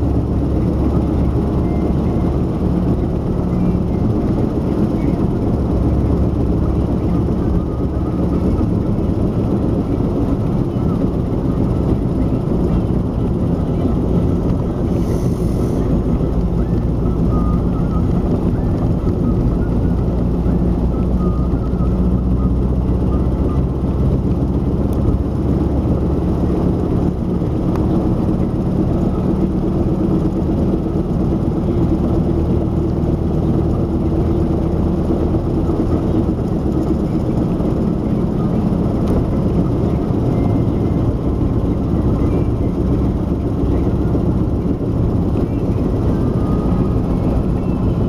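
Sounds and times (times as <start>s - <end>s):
car road and drivetrain noise: 0.0s - 48.0s
rear axle hum: 0.0s - 48.0s.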